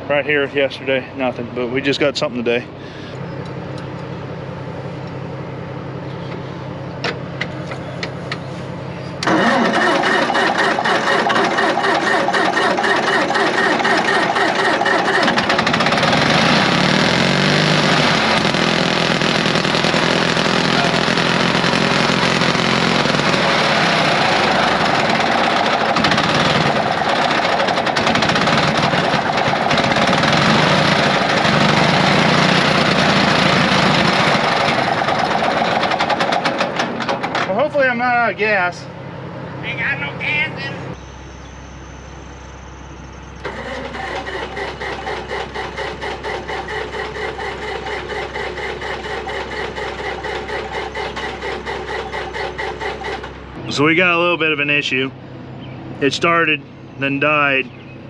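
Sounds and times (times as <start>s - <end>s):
dozer engine clattering: 0.0s - 39.8s, 40.8s - 58.0s.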